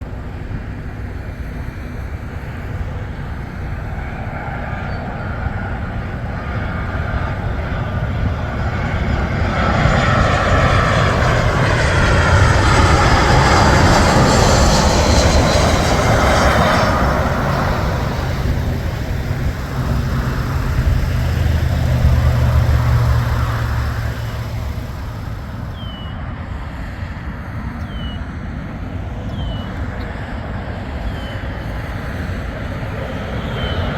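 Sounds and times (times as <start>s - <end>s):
airplane engines passing: 0.0s - 33.9s.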